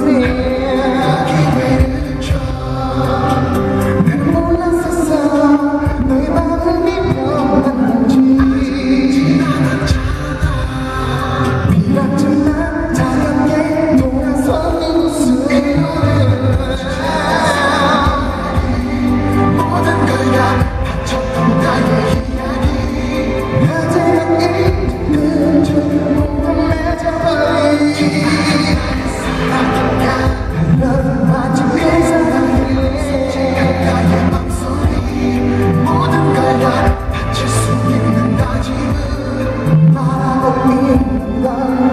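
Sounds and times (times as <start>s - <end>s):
live pop band playing: 0.0s - 41.9s
man singing: 0.0s - 41.9s.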